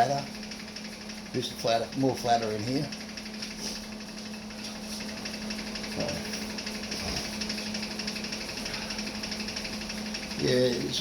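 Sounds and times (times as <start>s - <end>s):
electric fan clicking: 0.0s - 11.0s
welder humming: 0.0s - 11.0s.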